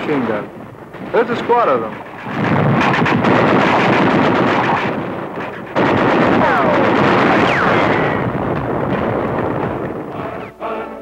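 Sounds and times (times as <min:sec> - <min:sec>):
rifle and machine-gun fire: 0:00.0 - 0:10.5
explosions: 0:00.0 - 0:10.6.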